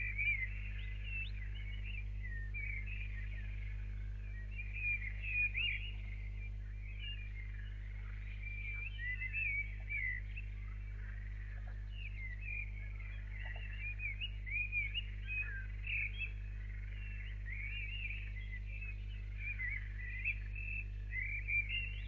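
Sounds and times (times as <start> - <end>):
low electrical hum: 0.0 - 22.0
small birds chirping: 0.0 - 22.0.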